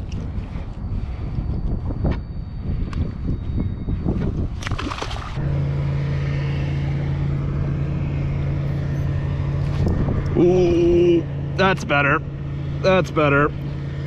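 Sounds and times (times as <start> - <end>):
wind or handling noise: 0.0 - 12.0
electric motor humming: 2.6 - 14.0.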